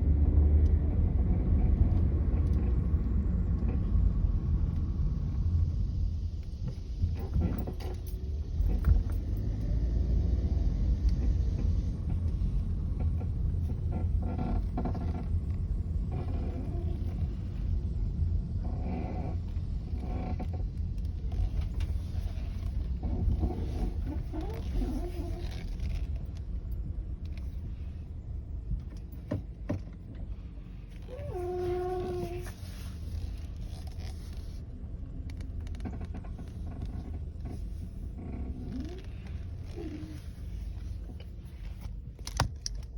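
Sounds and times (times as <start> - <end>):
car engine low rumble: 0.0 - 42.9
steering groaning: 6.6 - 42.1.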